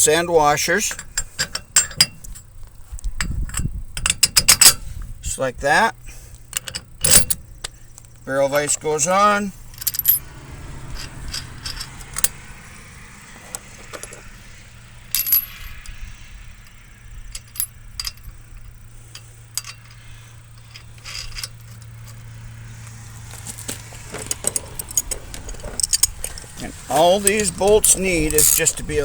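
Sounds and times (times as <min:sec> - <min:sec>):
bolts clinking against metal: 0:00.0 - 0:12.5, 0:13.4 - 0:29.0.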